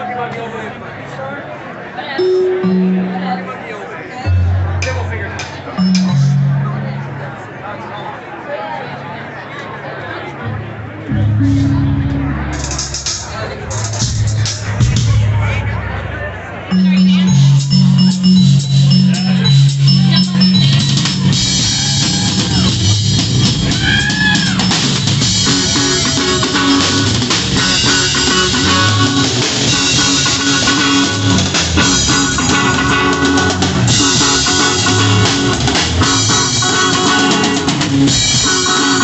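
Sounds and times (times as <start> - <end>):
rock band playing: 0.0 - 0.8, 2.2 - 7.4, 10.4 - 39.0.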